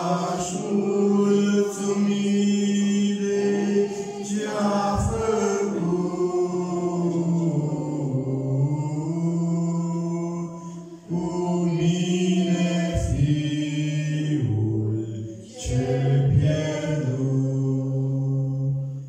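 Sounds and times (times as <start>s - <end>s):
man singing a hymn: 0.0s - 18.7s.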